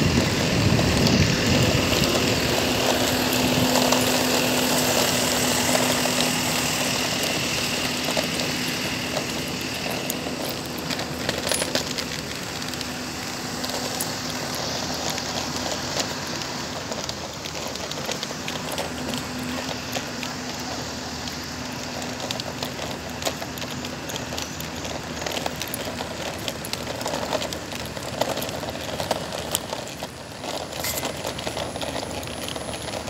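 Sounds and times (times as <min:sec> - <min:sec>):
car engine hum: 0:00.0 - 0:33.0
tyre hiss on wet road: 0:00.2 - 0:29.5.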